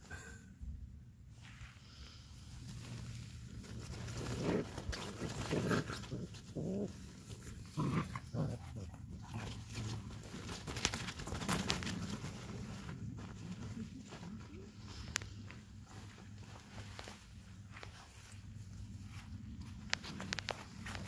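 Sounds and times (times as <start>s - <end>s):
nylon play tunnel rustling: 1.3s - 21.0s
paws scraping on nylon: 1.4s - 21.0s.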